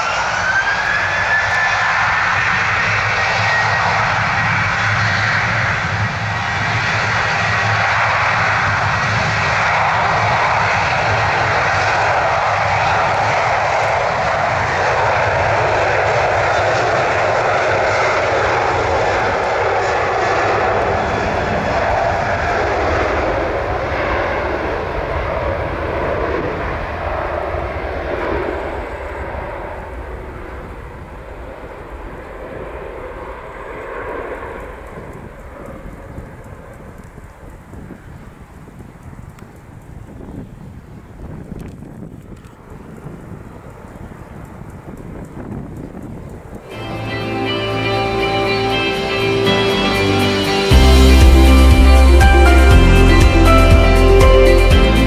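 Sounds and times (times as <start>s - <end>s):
jet engines at takeoff thrust: 0.0s - 54.4s.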